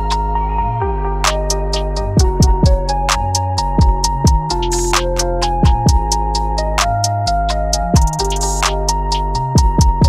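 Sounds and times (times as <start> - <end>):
hi-hat ticks: 0.0 - 0.2, 1.2 - 10.0
electronic background music: 0.0 - 10.0
held bass and synth notes: 0.0 - 10.0.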